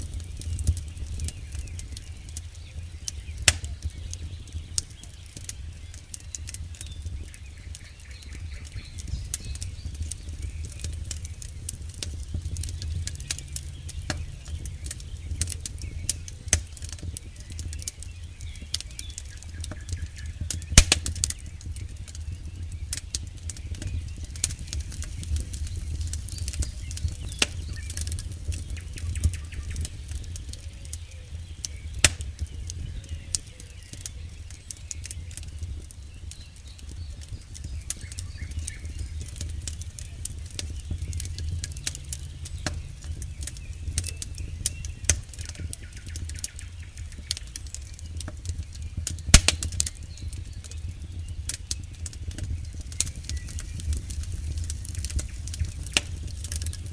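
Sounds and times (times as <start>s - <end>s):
campfire crackling and popping: 0.0s - 56.9s
low rumble of flames: 0.0s - 56.9s.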